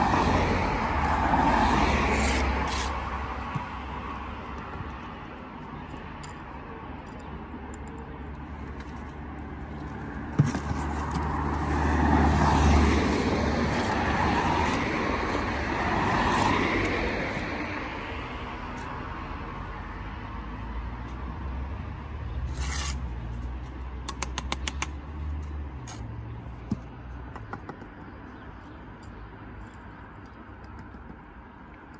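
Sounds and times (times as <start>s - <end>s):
outdoor hum: 0.0s - 31.9s
road traffic passing: 0.0s - 31.9s.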